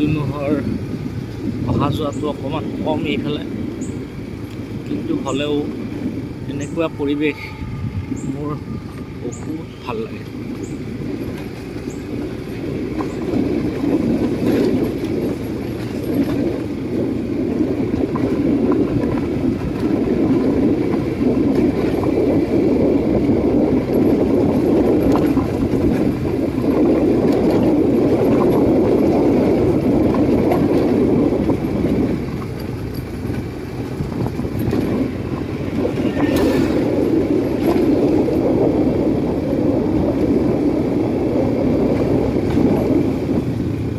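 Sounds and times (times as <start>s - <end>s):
moving vehicle rumble: 0.0s - 43.9s.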